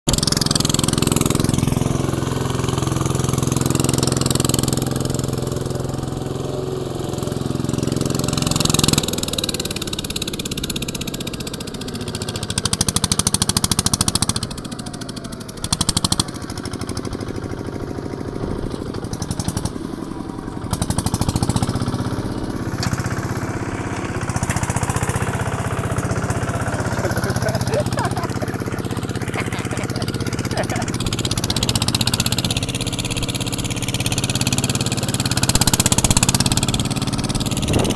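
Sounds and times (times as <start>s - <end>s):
diesel engine chugging: 0.1s - 37.9s.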